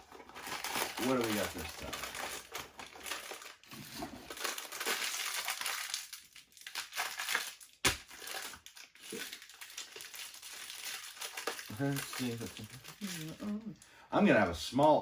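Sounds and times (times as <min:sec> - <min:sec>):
crinkly packaging being crushed: 0:00.0 - 0:13.6.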